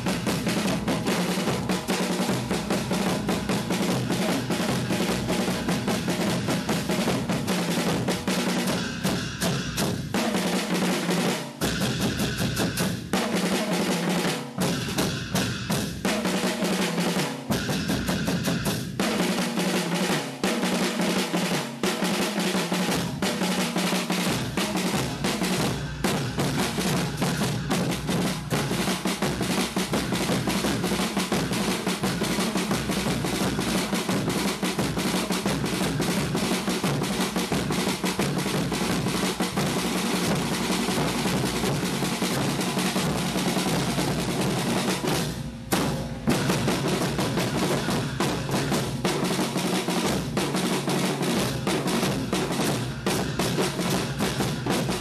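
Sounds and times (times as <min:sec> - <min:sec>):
marching drum band: 0:00.0 - 0:55.0.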